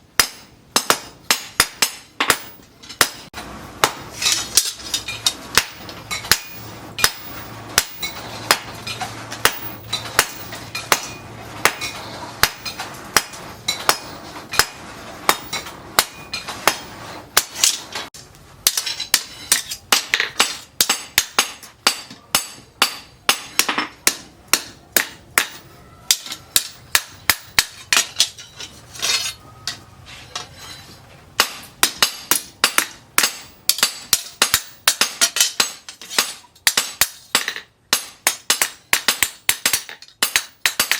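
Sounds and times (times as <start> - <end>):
hammer striking steel on anvil: 0.2 - 18.0, 18.6 - 29.8, 31.4 - 40.9.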